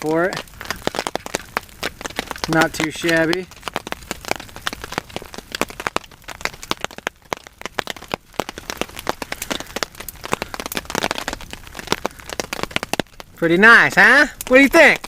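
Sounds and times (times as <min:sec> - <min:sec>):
rain falling: 0:00.0 - 0:15.0
raindrops tapping close by: 0:00.0 - 0:15.0.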